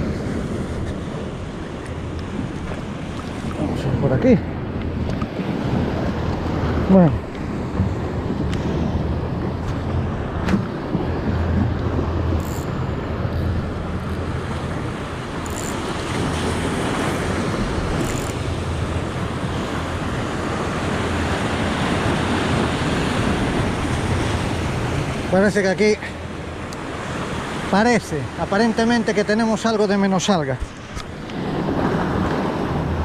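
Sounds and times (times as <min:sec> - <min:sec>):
surf washing onto rocks: 0:00.0 - 0:12.4, 0:13.0 - 0:33.0
wind buffeting microphone: 0:00.0 - 0:27.7.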